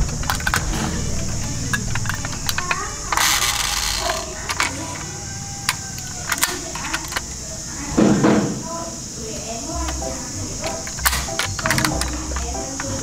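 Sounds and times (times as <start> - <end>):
toy clicking and rattling: 0.0 - 7.9, 9.2 - 13.0.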